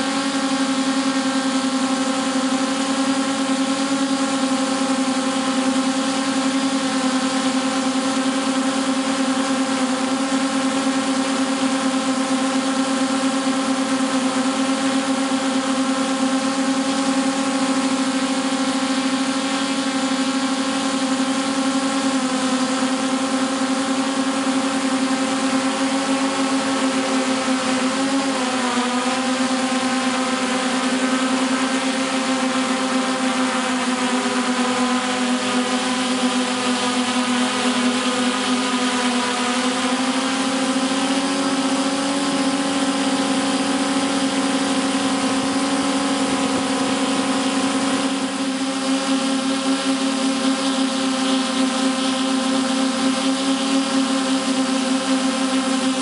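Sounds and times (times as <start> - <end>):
drone motors and propellers humming: 0.0 - 56.0.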